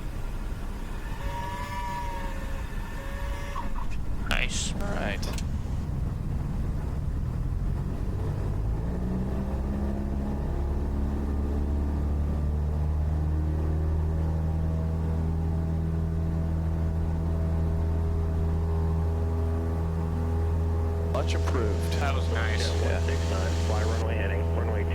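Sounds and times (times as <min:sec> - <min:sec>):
airplane engine and propeller drone: 0:00.0 - 0:24.9.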